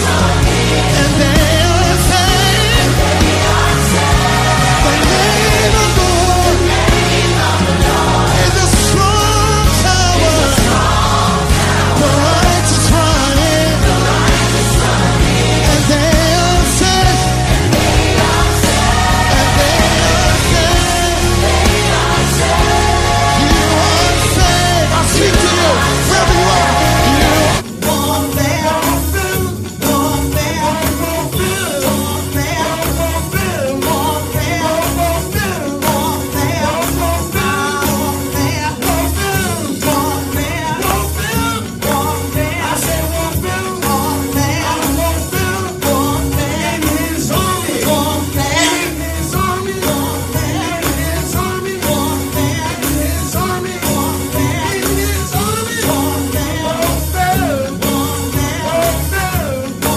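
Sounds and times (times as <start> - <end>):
bass line: 0.0 - 59.9
drums beating: 0.0 - 59.9
gospel music: 0.0 - 59.9
voices singing: 0.0 - 59.9.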